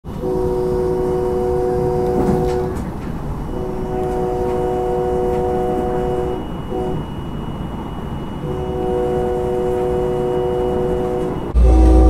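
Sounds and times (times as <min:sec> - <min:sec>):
train rumbling on rails: 0:00.0 - 0:12.0
train chime horn blasts: 0:00.1 - 0:02.9, 0:03.5 - 0:12.0.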